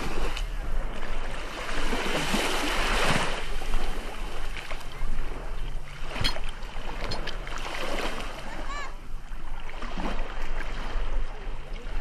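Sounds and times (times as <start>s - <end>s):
waves lapping at shore: 0.0s - 12.0s.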